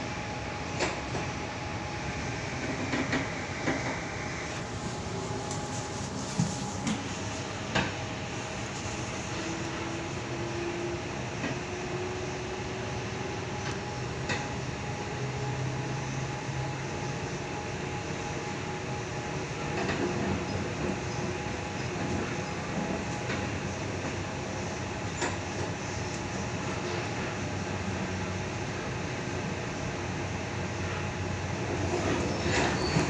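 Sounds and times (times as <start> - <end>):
electric train interior rumble: 0.0 - 33.0.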